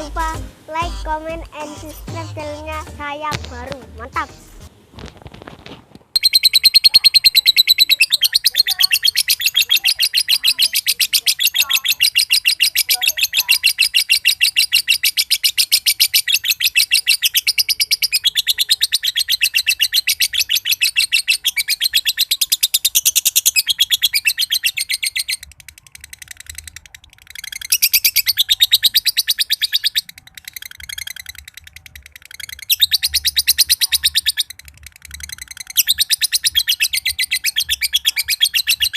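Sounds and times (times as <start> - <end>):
lovebird chattering: 0.0 - 4.3, 6.2 - 38.9.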